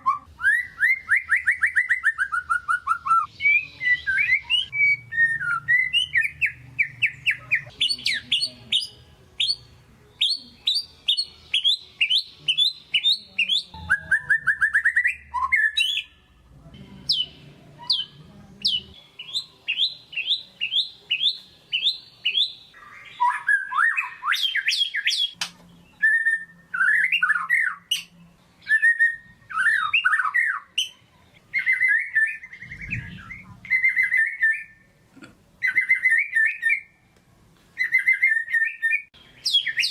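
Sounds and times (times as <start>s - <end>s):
bird singing whistled trills: 0.0s - 16.2s, 17.1s - 34.9s, 35.6s - 37.0s, 37.8s - 39.9s.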